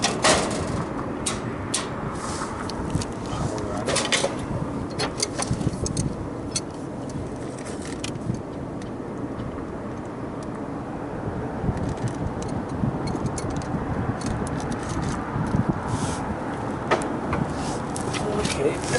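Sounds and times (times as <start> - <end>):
steady background rumble: 0.0 - 18.9.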